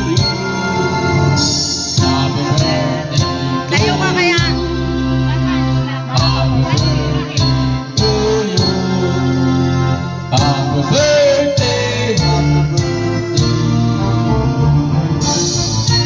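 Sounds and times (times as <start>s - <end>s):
song with singing voice: 0.0s - 16.0s.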